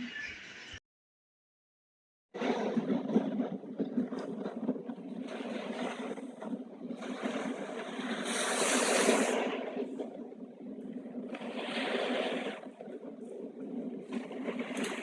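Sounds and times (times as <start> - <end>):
ocean waves washing in: 2.4 - 15.0.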